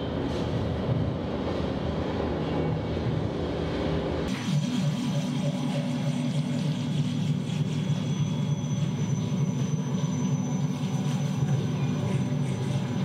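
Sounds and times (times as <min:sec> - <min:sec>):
low ambient electronic drone: 0:02.5 - 0:13.0.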